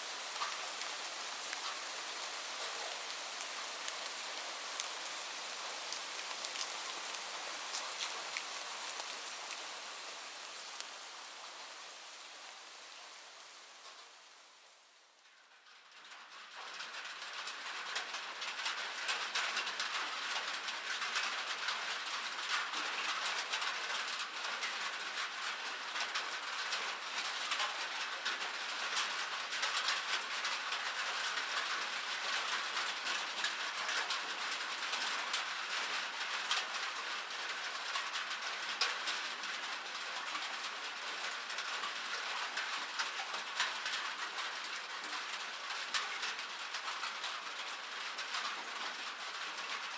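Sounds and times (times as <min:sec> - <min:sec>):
rain pattering on a surface: 0:00.0 - 0:49.9.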